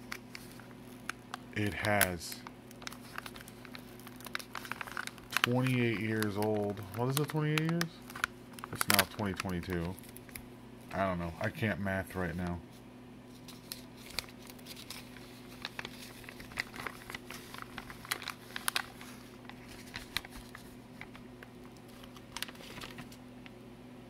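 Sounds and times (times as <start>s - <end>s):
plastic bag crinkling: 0.0s - 12.5s, 13.3s - 23.2s.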